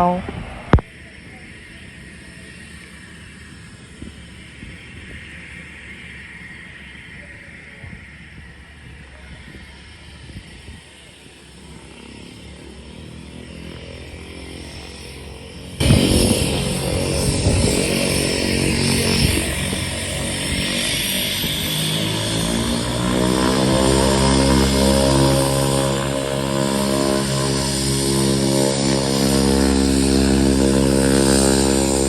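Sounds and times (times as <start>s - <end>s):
propeller airplane engine: 0.0s - 32.0s.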